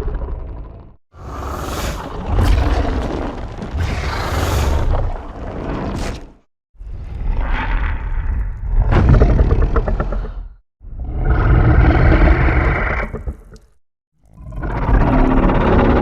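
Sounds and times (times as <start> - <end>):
deep rasping creature rumble: 0.0 - 13.8, 14.4 - 16.0.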